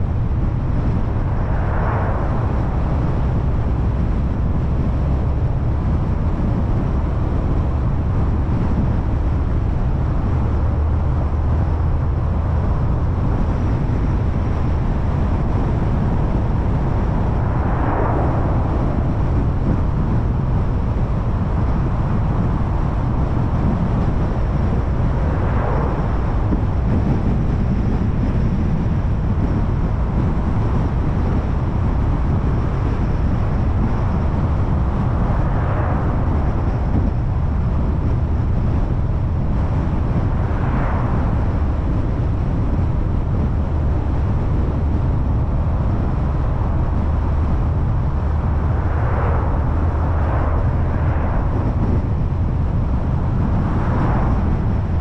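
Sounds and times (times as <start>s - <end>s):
car road noise rumble: 0.0s - 55.0s.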